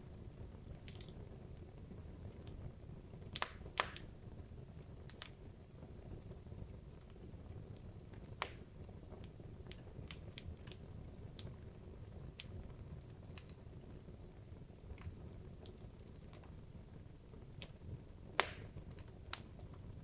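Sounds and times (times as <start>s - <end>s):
low rumble of fire: 0.0s - 20.0s
wood fire crackling: 0.0s - 20.0s.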